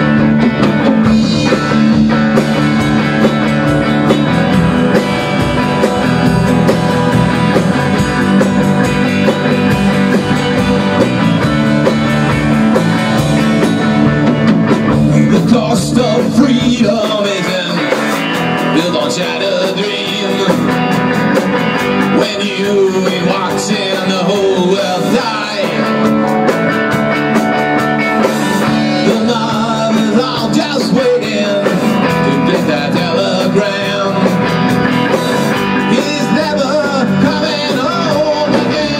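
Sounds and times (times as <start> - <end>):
drum kit with cymbals: 0.0 - 38.9
electric guitars: 0.0 - 38.9
rock band playing live: 0.0 - 38.9.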